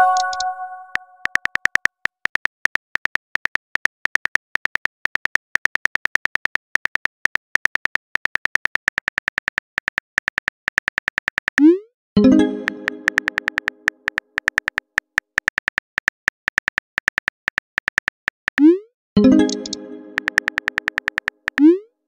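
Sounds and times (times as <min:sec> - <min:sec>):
phone keyboard clicks: 0:00.0 - 0:11.6, 0:12.6 - 0:18.7, 0:19.4 - 0:21.7.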